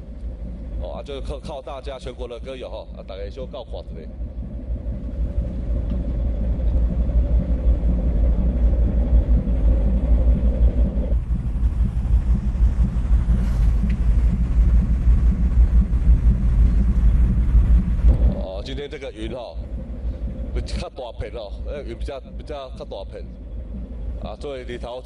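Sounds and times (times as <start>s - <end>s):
wind buffeting microphone: 0.0s - 24.8s
steady hum: 0.0s - 25.0s.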